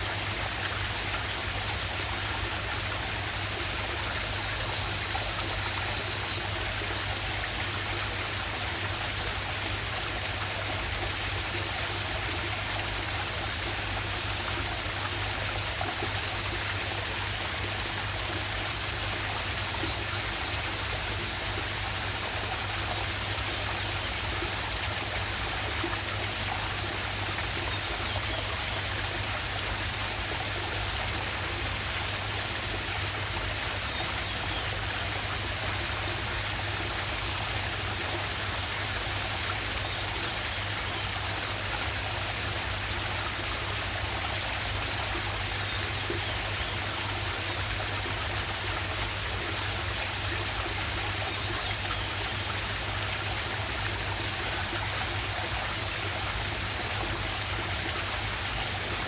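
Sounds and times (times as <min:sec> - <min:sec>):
waterfall and stream rushing: 0:00.0 - 0:59.0.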